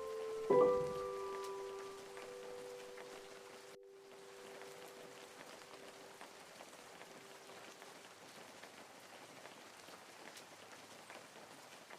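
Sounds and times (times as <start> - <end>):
faint steady rain: 0.0 - 11.9.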